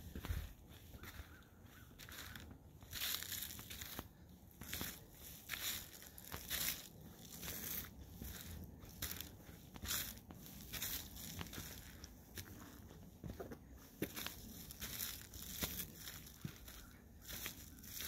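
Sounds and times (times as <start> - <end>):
footsteps crunching dry leaves: 0.0 - 18.0.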